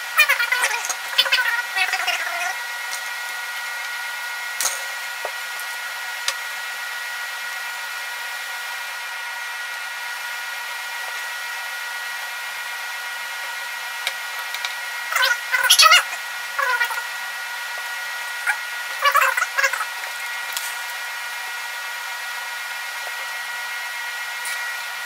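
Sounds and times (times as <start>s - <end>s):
fan hiss: 0.0s - 25.0s.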